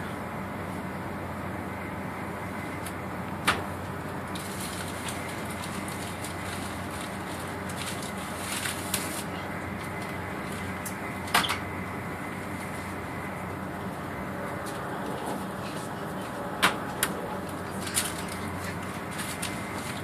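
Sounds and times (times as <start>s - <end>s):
train carriage running noise: 0.0s - 20.0s.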